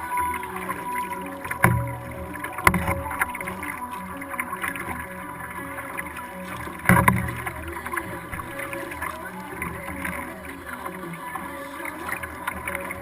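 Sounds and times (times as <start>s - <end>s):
water washing around kayak: 0.0s - 13.0s.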